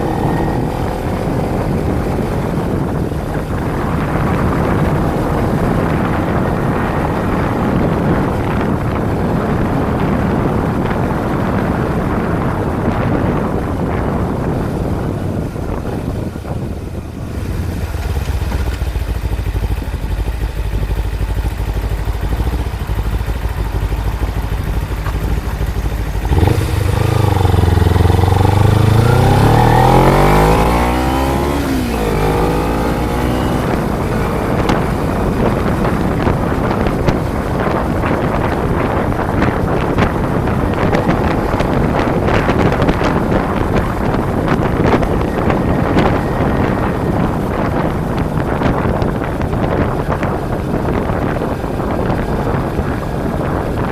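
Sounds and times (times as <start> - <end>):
motorcycle engine accelerating: 0.0 - 53.9
wind and road noise: 0.0 - 53.9.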